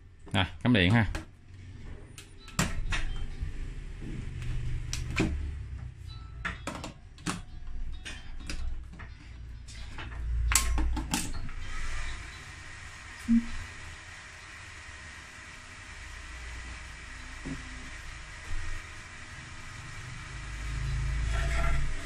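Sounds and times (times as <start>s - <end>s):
cooling fan whirring: 0.0s - 22.0s.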